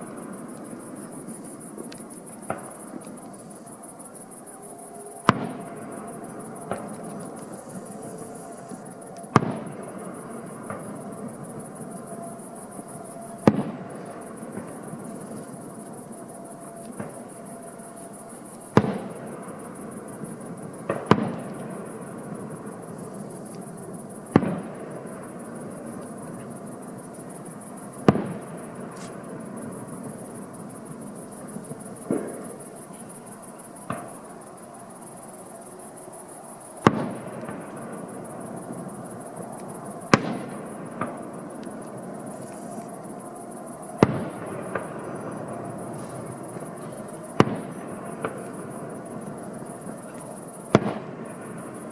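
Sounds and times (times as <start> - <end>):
fireworks bursting with bangs: 0.0 - 34.4, 36.6 - 51.9.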